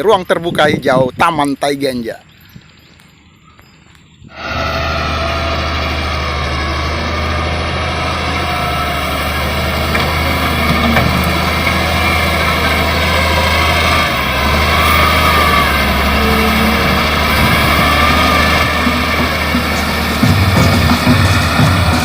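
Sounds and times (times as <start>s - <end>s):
excavator diesel engine running: 4.3s - 22.0s.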